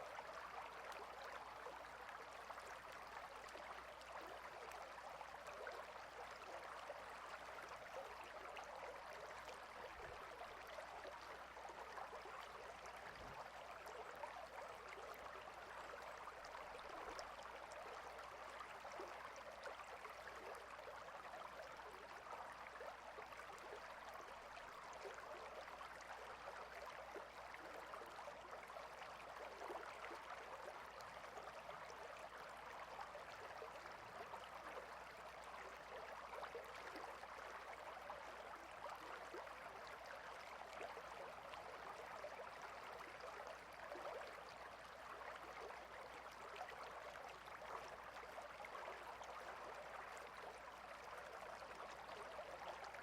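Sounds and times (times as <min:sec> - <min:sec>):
stream water babbling: 0:00.0 - 0:53.0.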